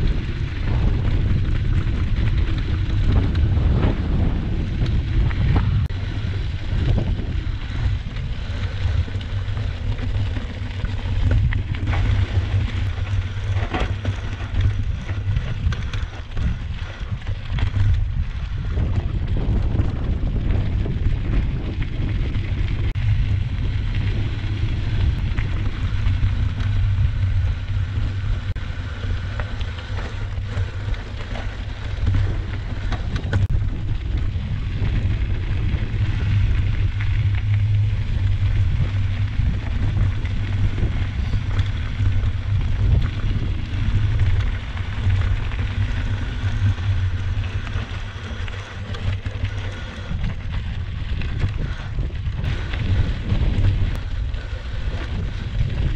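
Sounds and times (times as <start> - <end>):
bike rattling: 0.0 - 55.9
tyres crunching over gravel: 0.0 - 55.9
wind buffeting microphone: 0.0 - 55.9.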